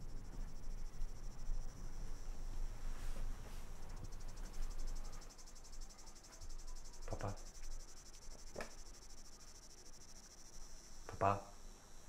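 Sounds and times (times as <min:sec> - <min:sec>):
cricket chirping trill: 0:00.0 - 0:12.0.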